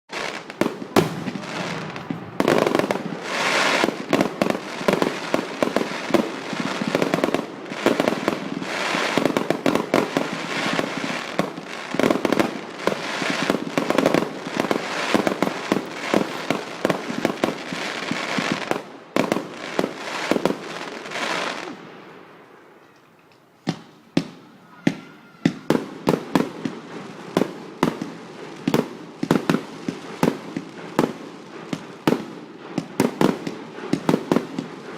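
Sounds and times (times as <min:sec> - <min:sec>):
fireworks bangs and crackling: 0:00.1 - 0:22.7, 0:23.6 - 0:34.9.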